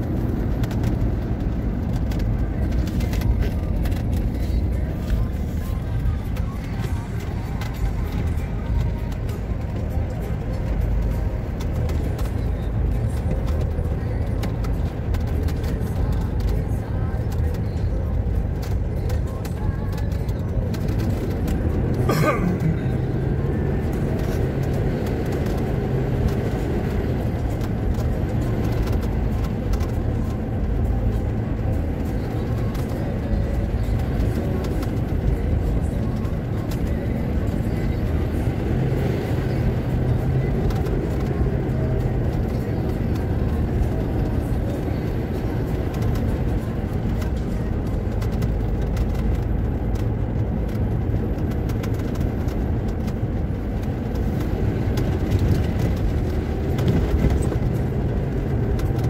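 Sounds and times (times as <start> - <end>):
engine and tyre noise on wet road: 0.0 - 59.0.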